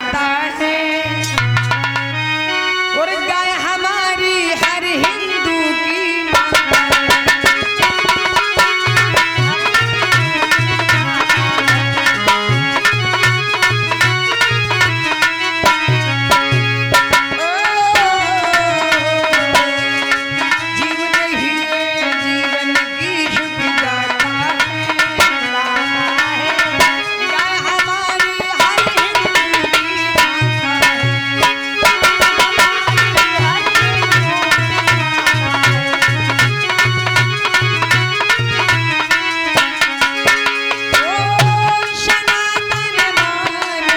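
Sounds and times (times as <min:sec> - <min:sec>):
hand drum beating: 0:01.4 - 0:02.1, 0:06.4 - 0:43.9.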